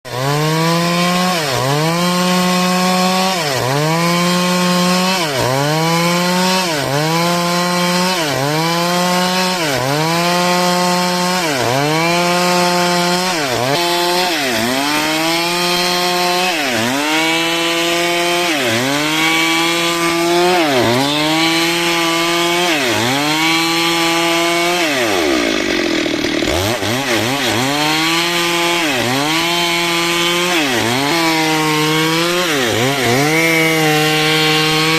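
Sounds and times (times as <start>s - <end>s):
chainsaw cutting timber: 0.0s - 34.9s.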